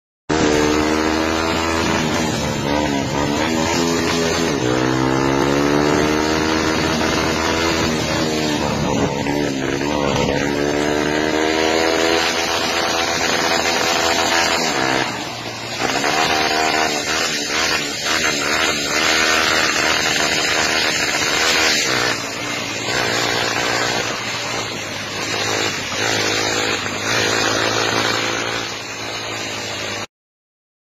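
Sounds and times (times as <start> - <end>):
motorcycle engine accelerating: 0.3 - 30.1.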